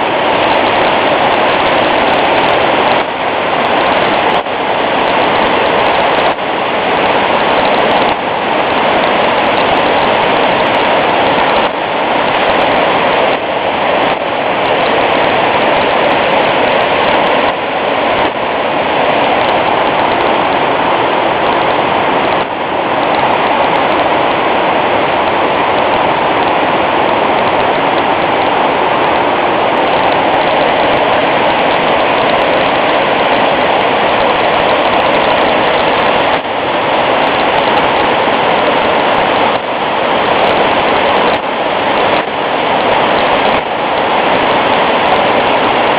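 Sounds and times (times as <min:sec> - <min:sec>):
floodwater rushing: 0:00.0 - 0:45.9.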